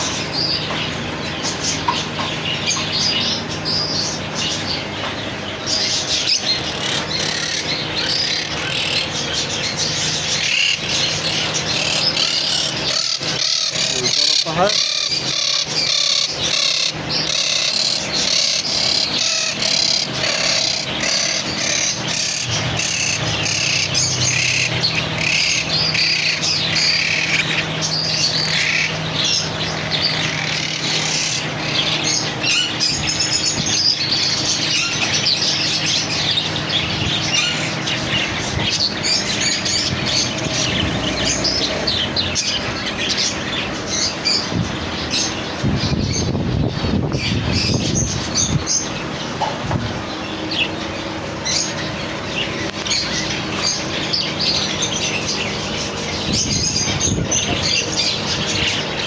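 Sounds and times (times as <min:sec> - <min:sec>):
birds chirping and tweeting: 0:00.0 - 0:59.0.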